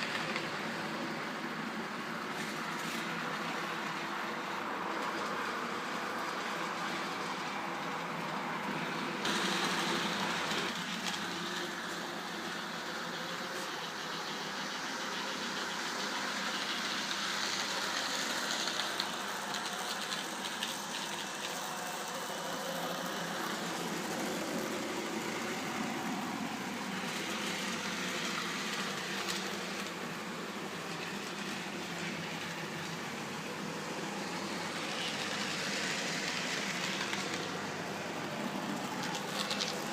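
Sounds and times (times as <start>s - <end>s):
model train motors whirring: 0.0s - 39.9s.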